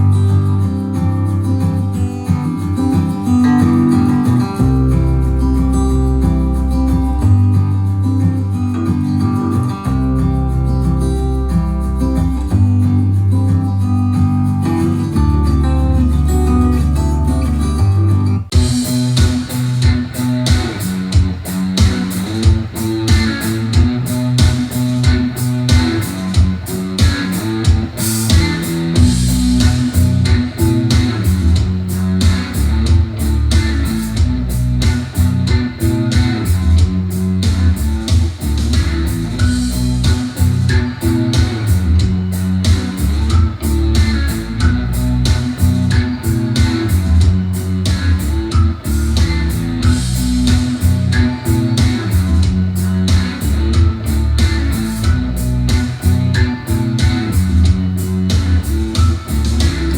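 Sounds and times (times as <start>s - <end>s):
guitar-led music with bass: 0.0s - 59.9s.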